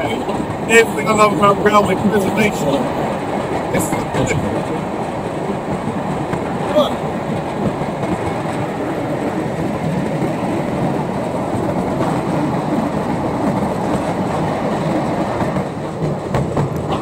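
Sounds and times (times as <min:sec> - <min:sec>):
wagon wheels clattering on rails: 0:00.0 - 0:17.0.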